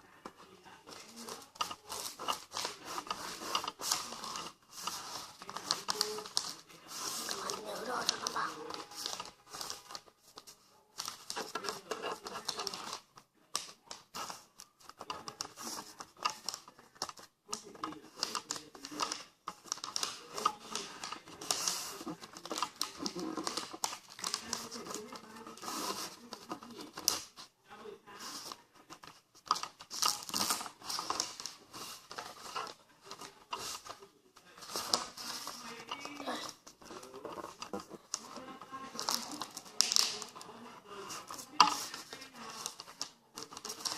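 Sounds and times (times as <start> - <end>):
paper rustling and crinkling: 0.0 - 43.9.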